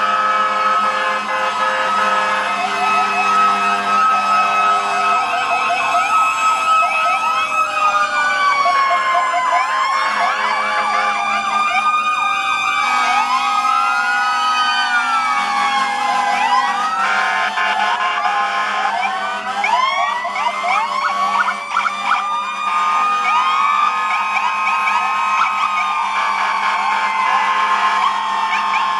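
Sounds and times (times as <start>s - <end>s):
sirens wailing: 0.0s - 28.9s
sirens yelping: 0.0s - 28.9s.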